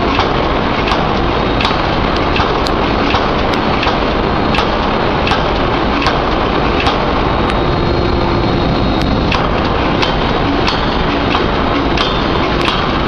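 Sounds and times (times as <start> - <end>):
forging hammer machine noise: 0.0 - 13.0.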